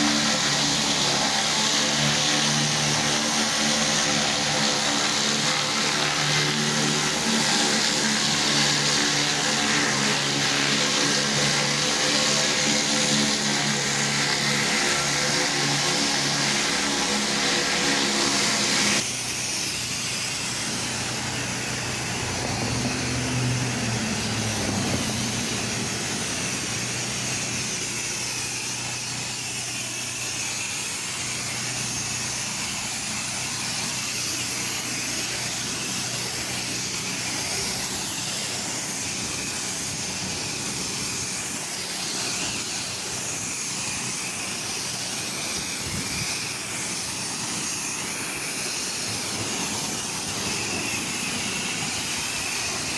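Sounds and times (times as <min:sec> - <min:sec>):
high-pressure water spray hissing: 0:00.0 - 0:52.9
pressure washer engine hum: 0:00.0 - 0:52.9.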